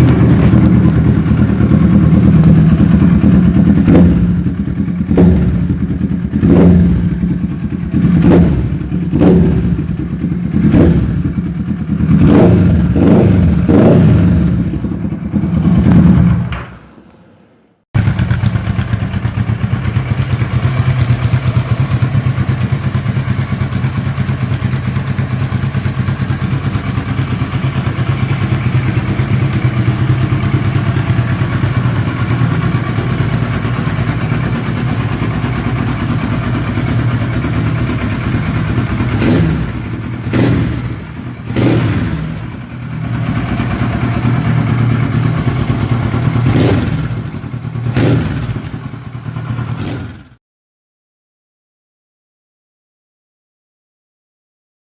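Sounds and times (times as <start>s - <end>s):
motorcycle engine idling: 0.0s - 16.8s, 18.0s - 50.4s
motorcycle engine revving: 0.0s - 16.8s, 18.0s - 50.4s.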